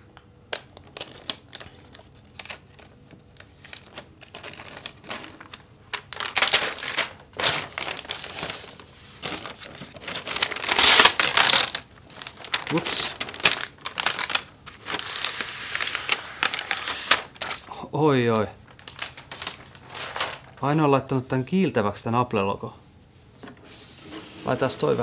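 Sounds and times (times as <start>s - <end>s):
paper rustling and crinkling: 0.6s - 21.6s, 23.3s - 25.0s.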